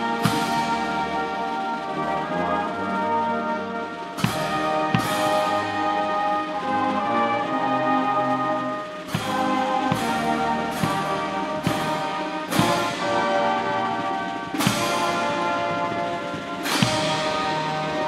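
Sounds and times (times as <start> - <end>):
brass chords: 0.0 - 18.0
drum strikes: 0.0 - 18.0.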